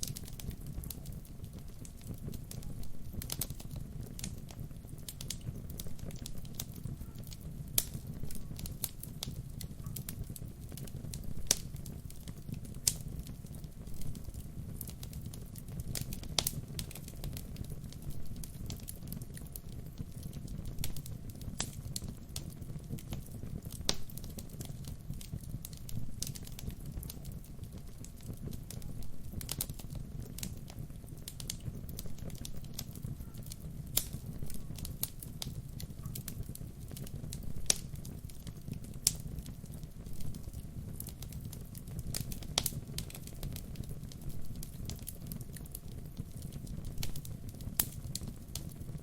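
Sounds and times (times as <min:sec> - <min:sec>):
sharp fire pops: 0:00.0 - 0:49.0
wood fire crackling: 0:00.0 - 0:49.0.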